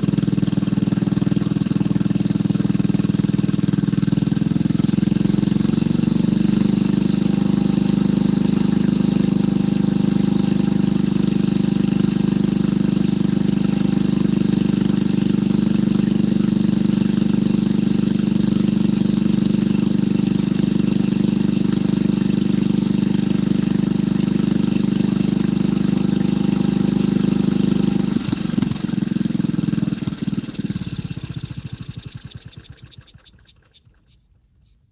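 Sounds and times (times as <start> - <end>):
motorcycle engine idling: 0.0 - 34.8.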